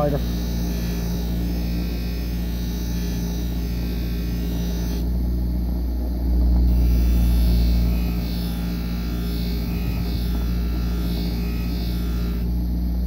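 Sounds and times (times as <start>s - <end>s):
bench grinder motor hum: 0.0s - 13.0s.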